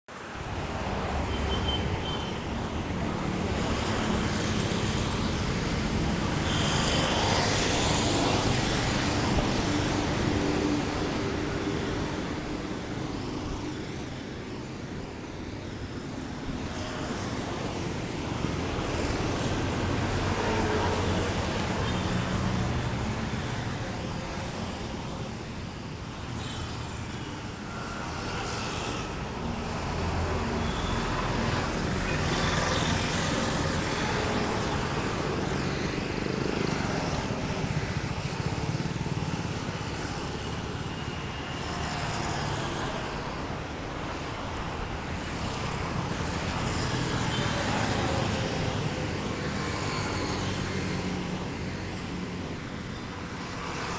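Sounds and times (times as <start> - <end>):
road traffic passing: 0.1 - 53.9.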